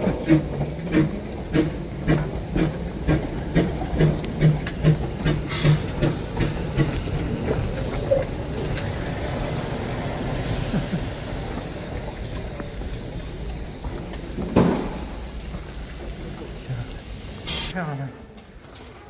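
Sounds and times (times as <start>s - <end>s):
steam hissing: 0.0s - 17.7s
steam locomotive chuffing: 0.0s - 17.7s.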